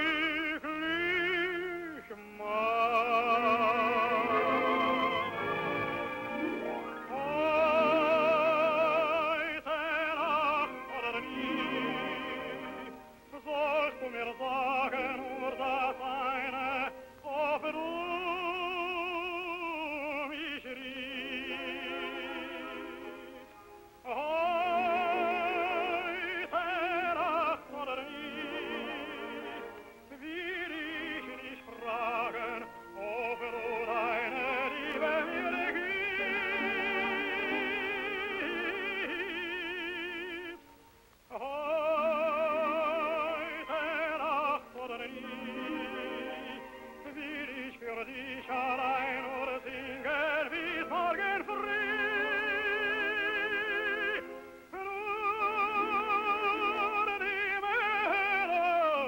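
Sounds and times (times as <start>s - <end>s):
operatic tenor singing: 0.0s - 40.7s, 41.3s - 59.0s.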